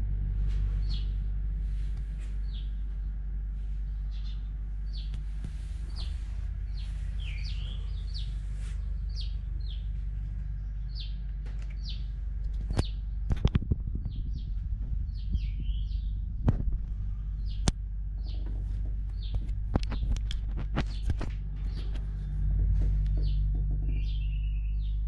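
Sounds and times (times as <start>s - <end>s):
low background hum: 0.0s - 25.0s
small bird chirping: 0.6s - 1.2s, 2.3s - 3.1s, 3.8s - 25.0s.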